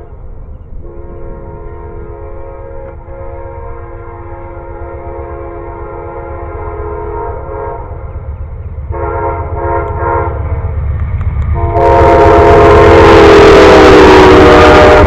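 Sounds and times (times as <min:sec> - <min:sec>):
train passing rumble: 0:00.0 - 0:15.0
locomotive horn blasts: 0:00.8 - 0:08.0, 0:08.9 - 0:10.4, 0:11.6 - 0:15.0.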